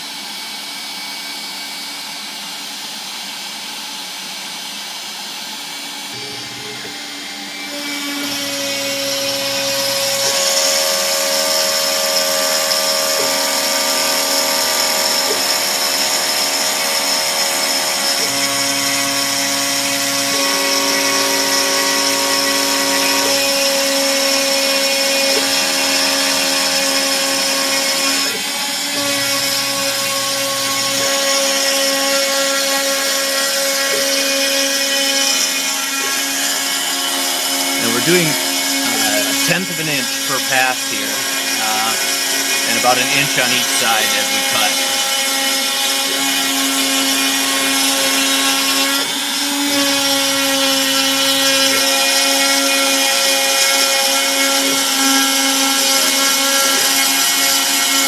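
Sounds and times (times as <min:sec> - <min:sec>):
router whining: 0:06.0 - 0:58.0.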